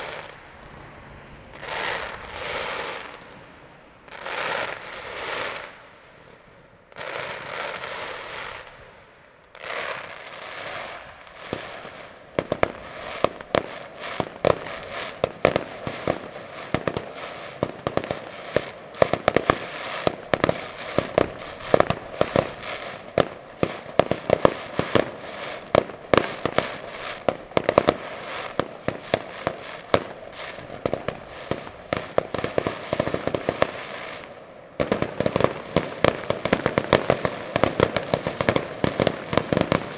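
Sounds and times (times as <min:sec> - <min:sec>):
fireworks bangs and crackles: 0:00.0 - 0:39.9
fireworks crackling hiss: 0:00.0 - 0:39.9.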